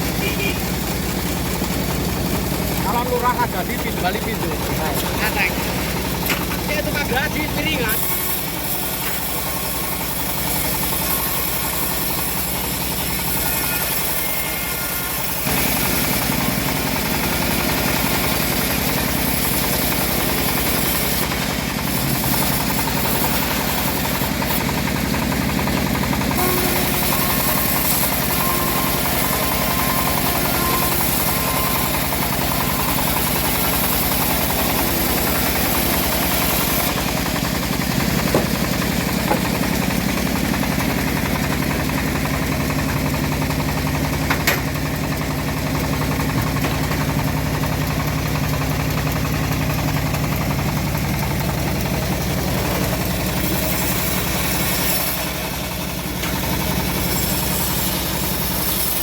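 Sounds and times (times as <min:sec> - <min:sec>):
engine-driven bandsaw mill running: 0:00.0 - 0:59.0.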